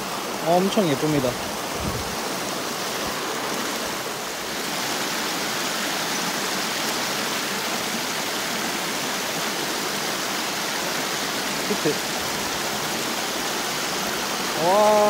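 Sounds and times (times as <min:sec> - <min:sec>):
brook water rippling over stones: 0:00.0 - 0:15.0.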